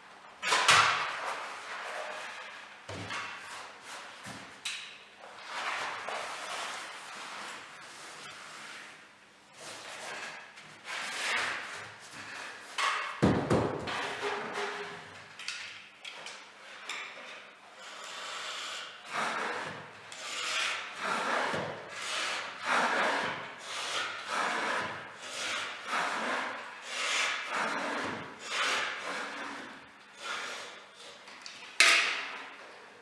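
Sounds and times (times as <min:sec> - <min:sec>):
hand tool scraping a surface: 0:05.4 - 0:15.2, 0:16.1 - 0:32.8.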